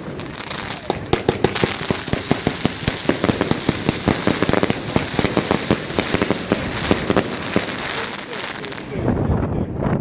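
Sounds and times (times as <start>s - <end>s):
firework cake shots: 0.0s - 9.0s
firework crackling: 0.0s - 9.3s.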